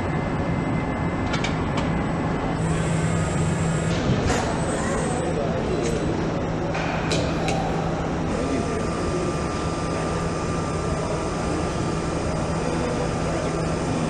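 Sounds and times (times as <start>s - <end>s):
machinery low hum: 0.0s - 14.0s.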